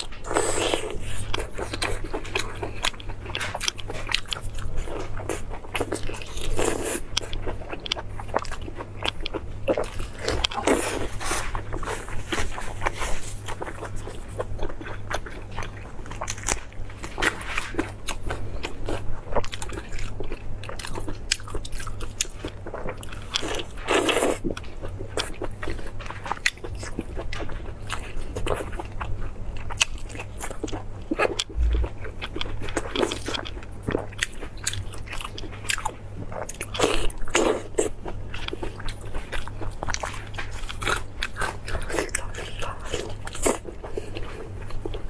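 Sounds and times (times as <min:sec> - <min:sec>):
chewing and biting meat: 0:00.0 - 0:45.0.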